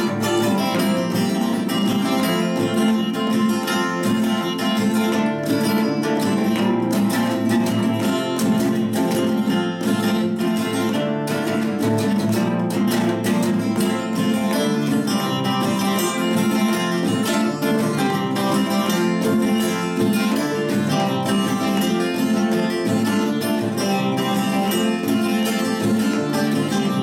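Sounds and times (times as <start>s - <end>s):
two acoustic guitars playing: 0.0s - 27.0s.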